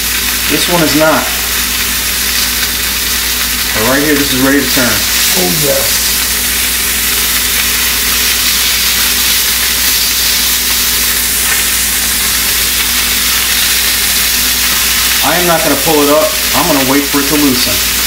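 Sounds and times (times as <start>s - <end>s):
fish frying in oil: 0.0s - 18.0s.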